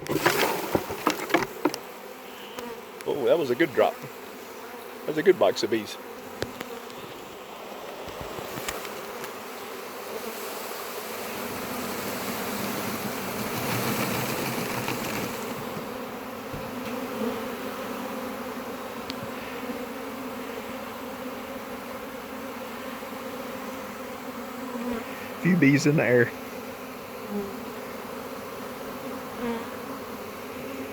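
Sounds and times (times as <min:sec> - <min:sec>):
bee swarm buzzing: 0:00.0 - 0:30.9.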